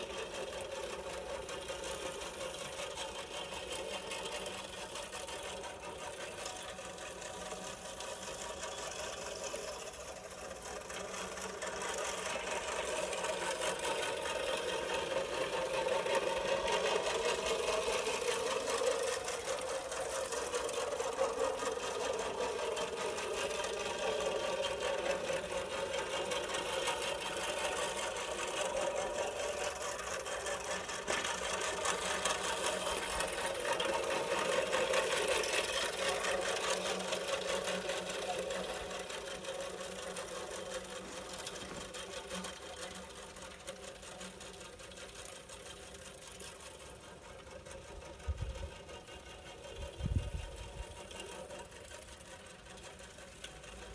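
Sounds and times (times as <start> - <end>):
remote-controlled lawn mower whirring: 0.0 - 53.9.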